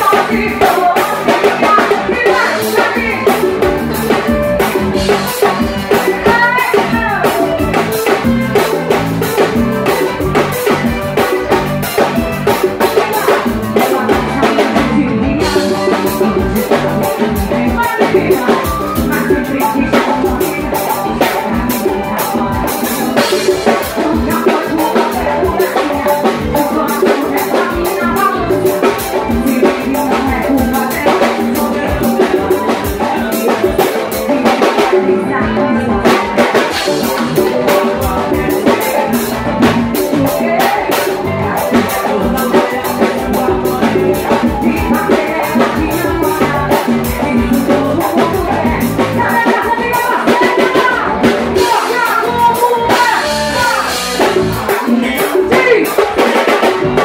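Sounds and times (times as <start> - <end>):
live band playing: 0.0 - 57.0
woman singing into microphone: 0.0 - 57.0.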